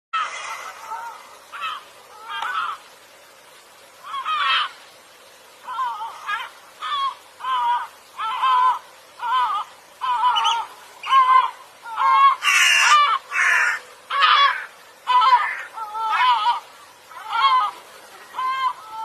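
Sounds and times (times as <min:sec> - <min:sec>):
bird calling harshly: 0:00.2 - 0:02.9, 0:04.0 - 0:04.9, 0:05.6 - 0:19.0.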